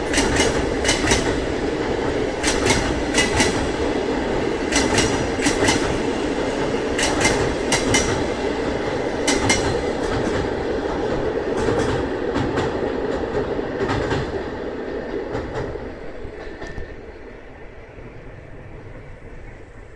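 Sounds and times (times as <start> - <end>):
wheels clacking over rail joints: 0.0 - 17.2
train coaches rumbling past: 0.0 - 19.9.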